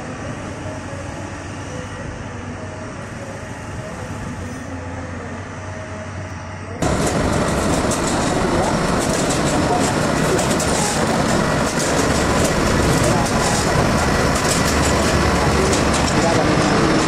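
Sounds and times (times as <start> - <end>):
track-laying machine running: 0.0 - 17.0.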